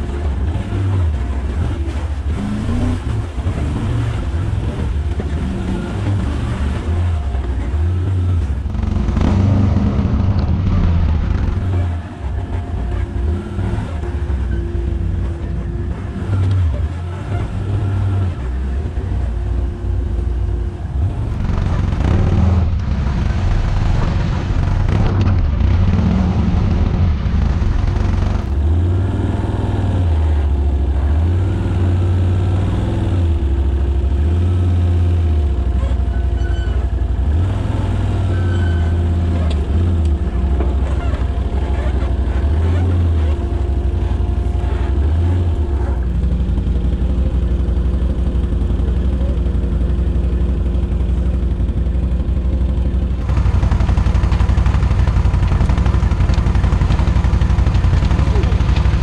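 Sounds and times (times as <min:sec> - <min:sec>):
quad engine crawling: 0:00.0 - 0:59.0
quad engine under varying throttle: 0:00.0 - 0:59.0.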